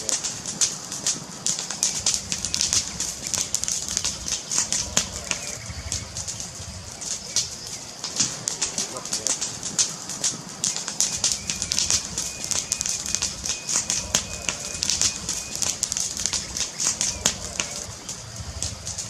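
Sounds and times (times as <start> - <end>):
fire crackling: 0.0 - 19.0
low rumble: 0.0 - 19.0.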